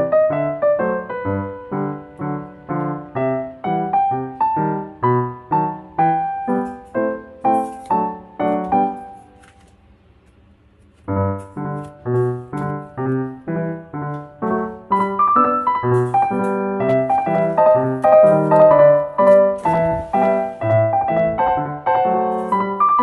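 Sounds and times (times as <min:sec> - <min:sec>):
piano music: 0:00.0 - 0:09.5, 0:11.1 - 0:23.0.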